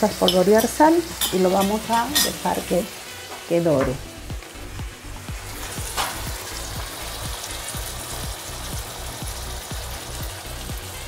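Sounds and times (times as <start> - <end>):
beef sizzling in frying pan: 0.0 - 11.0
soft music with steady beat: 0.3 - 11.0.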